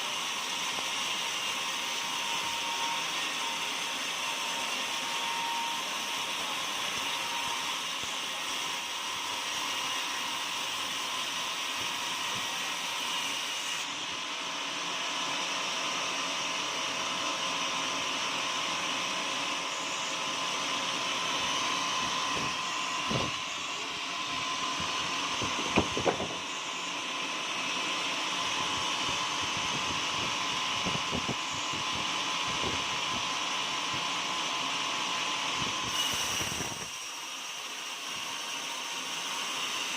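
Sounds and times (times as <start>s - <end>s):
sawmill cutting log: 0.0s - 39.9s.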